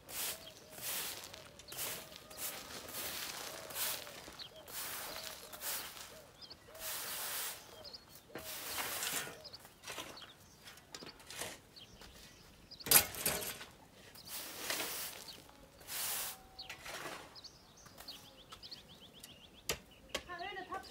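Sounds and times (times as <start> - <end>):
push broom sweeping dirt: 0.0 - 18.2
birds chirping: 0.0 - 20.9.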